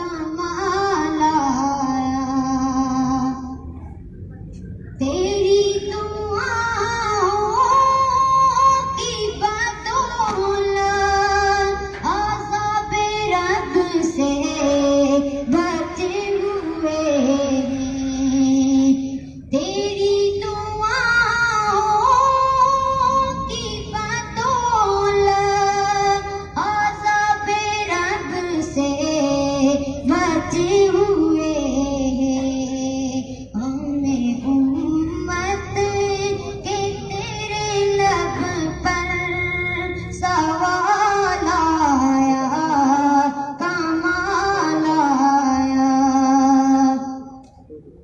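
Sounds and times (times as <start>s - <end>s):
woman singing devotional song: 0.0s - 3.6s, 5.0s - 47.4s.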